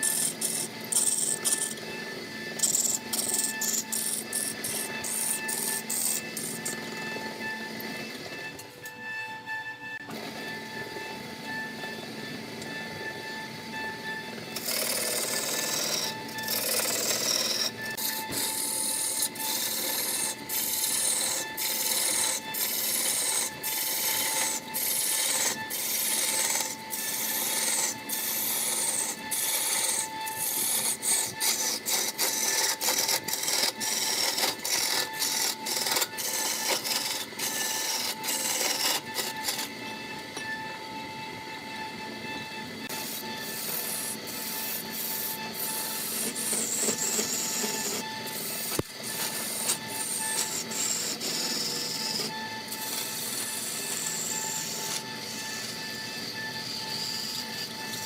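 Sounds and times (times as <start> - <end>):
lathe tool scraping wood: 0.0 - 41.0, 42.2 - 58.0.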